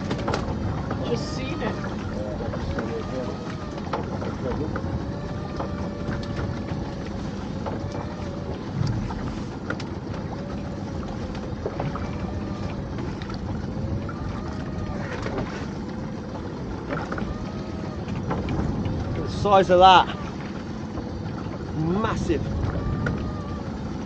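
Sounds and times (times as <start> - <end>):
boat motor whining: 0.0 - 24.0
wind and sea noise: 0.0 - 24.0.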